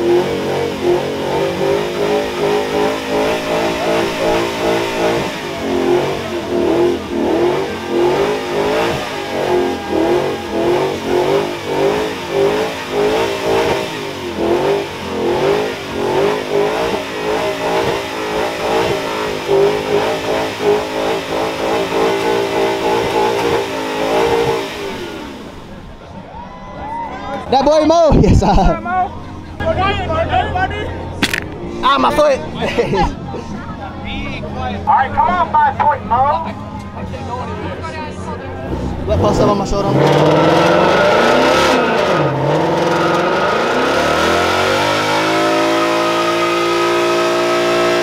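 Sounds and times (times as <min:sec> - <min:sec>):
car engine revving high: 0:00.0 - 0:26.0, 0:34.2 - 0:48.0.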